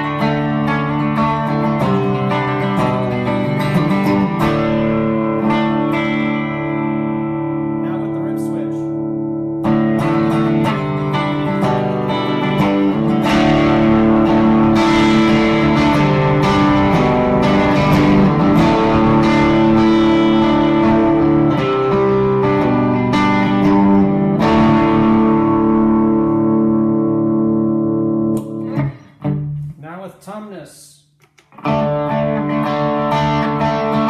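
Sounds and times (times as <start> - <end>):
electric guitar notes and chords: 0.0 - 29.8, 31.2 - 34.0.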